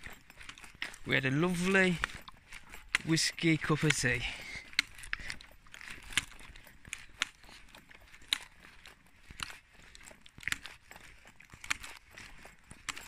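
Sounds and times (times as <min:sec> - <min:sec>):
faint footsteps: 0:00.0 - 0:13.0
trekking poles clicking on tarmac: 0:00.0 - 0:13.0.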